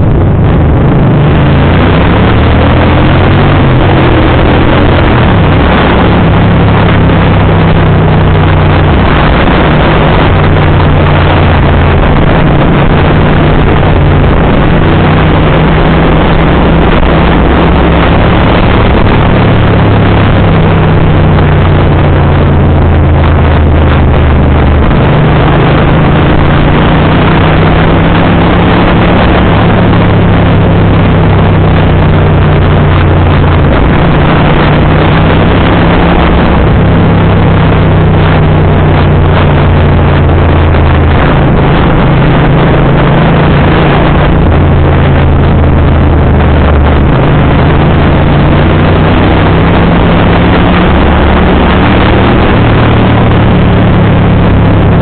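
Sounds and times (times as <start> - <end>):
motorcycle engine riding: 0.0 - 55.0
wind and road noise: 0.0 - 55.0.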